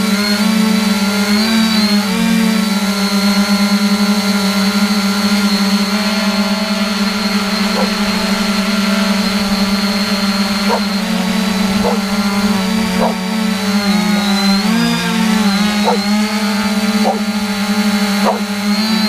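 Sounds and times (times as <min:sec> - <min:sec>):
quadcopter propellers droning: 0:00.0 - 0:19.0.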